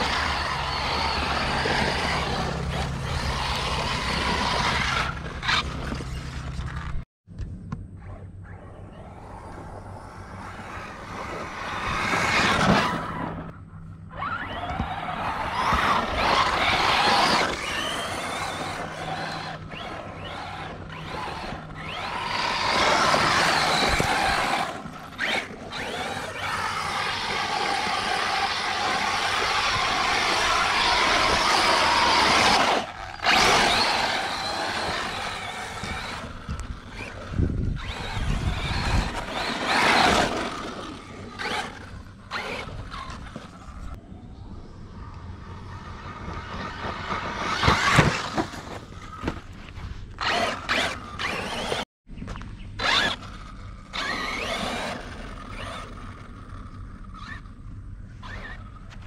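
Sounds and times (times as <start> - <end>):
rc truck motor whining: 0.0 - 7.0, 8.5 - 51.9, 52.8 - 59.0.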